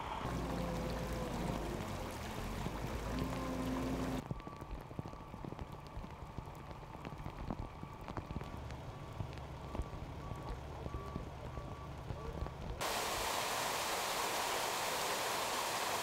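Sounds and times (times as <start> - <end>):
rain drops ticking on hard surface: 0.2 - 14.6.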